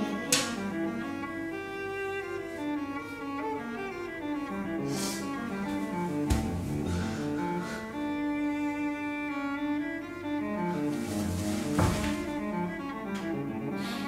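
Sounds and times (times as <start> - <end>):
low string notes: 0.0 - 14.0.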